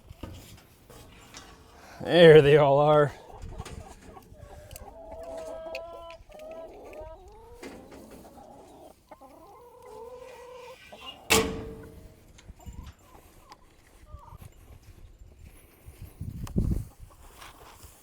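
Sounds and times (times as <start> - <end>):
chickens clucking: 0.0 - 14.5.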